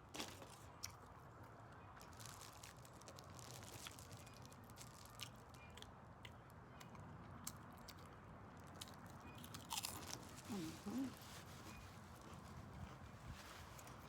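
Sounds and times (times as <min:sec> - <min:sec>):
low steady background hum: 0:00.0 - 0:14.0
faint chewing: 0:00.3 - 0:14.0.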